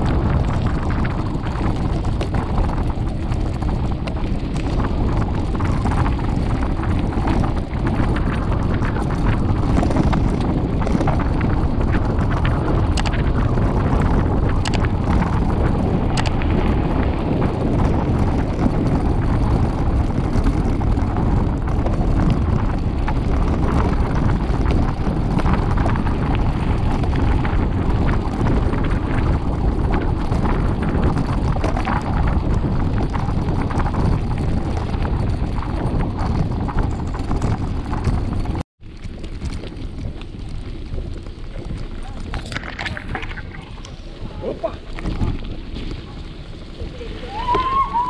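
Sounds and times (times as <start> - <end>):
tyres crunching on gravel: 0.0 - 47.8
bike rattling: 0.0 - 48.0
wind on microphone: 0.0 - 48.0.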